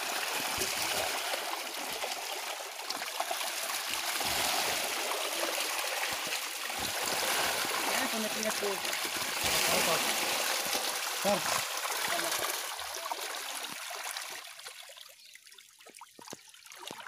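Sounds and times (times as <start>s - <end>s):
fish splashing in shallow water: 0.0s - 17.0s.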